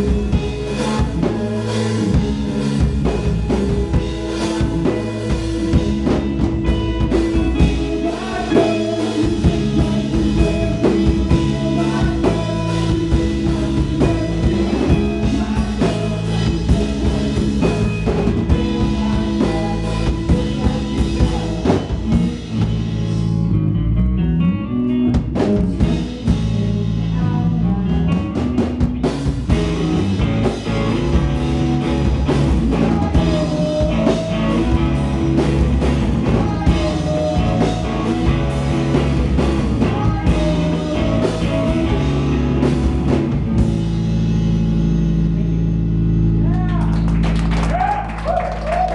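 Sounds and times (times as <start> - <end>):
drum kit: 0.0 - 23.6, 24.9 - 48.9
electric guitar: 0.0 - 48.9.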